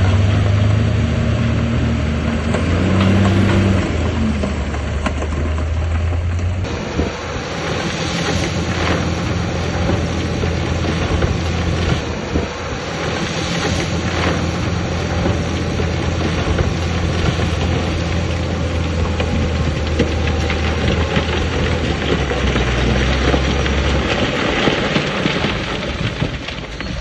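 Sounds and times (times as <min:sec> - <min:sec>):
diesel earthmoving machinery running: 0:00.0 - 0:27.0.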